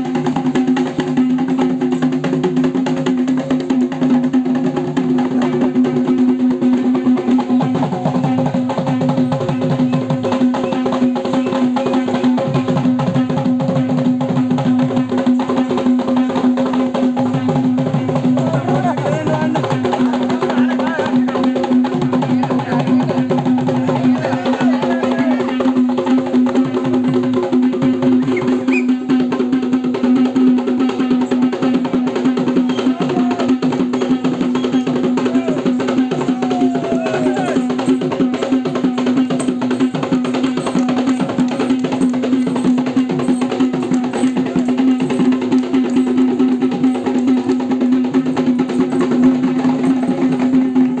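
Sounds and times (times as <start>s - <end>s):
fast drumming: 0.0s - 51.0s.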